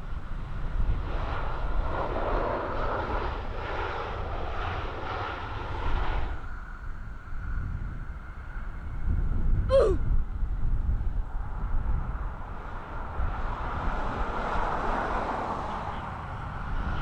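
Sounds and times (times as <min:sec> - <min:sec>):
aircraft engines passing: 0:00.0 - 0:17.0.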